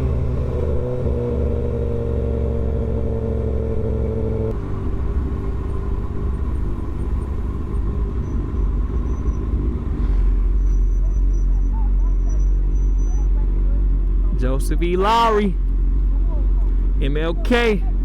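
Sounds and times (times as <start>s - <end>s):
road noise rumble: 0.0s - 18.0s.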